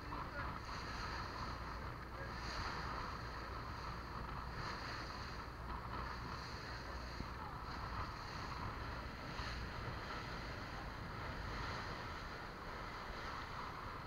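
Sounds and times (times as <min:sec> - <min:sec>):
motorboat engine rumble: 0:00.0 - 0:14.0
wind noise on microphone: 0:00.0 - 0:14.0.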